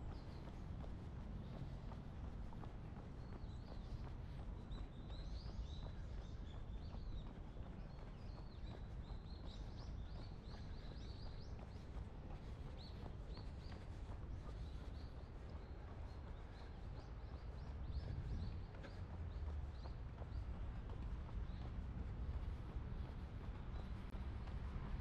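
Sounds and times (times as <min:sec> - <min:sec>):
small birds chirping: 0:00.0 - 0:24.2.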